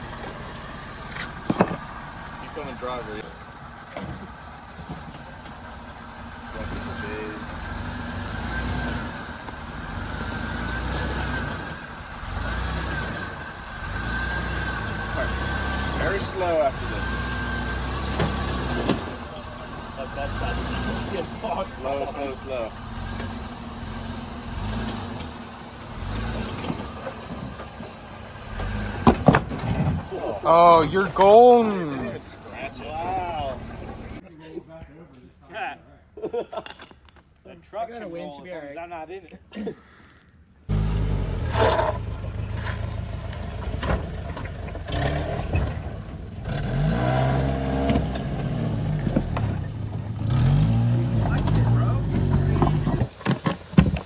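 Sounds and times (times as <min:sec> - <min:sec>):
off-road vehicle engine at low revs: 0:00.0 - 0:34.2, 0:40.7 - 0:54.0.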